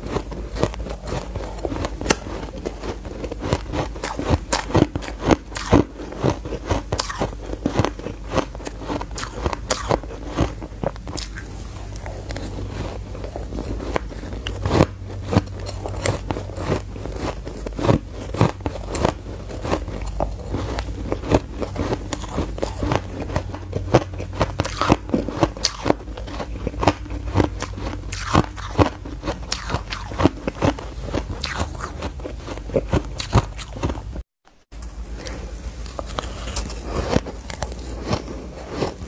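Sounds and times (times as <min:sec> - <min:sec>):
chewing crunchy ice: 0:00.0 - 0:34.2, 0:35.2 - 0:39.0.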